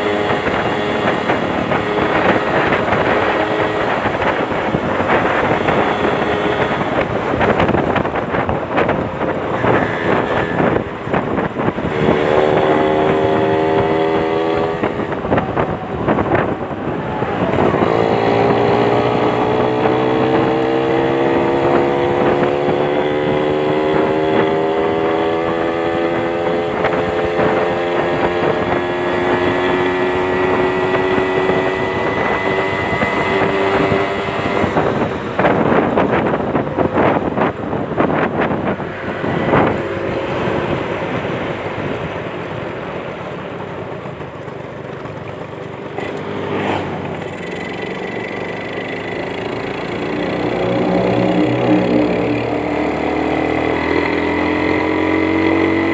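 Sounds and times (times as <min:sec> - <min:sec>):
two-stroke motorcycle engine: 0:00.0 - 0:55.9.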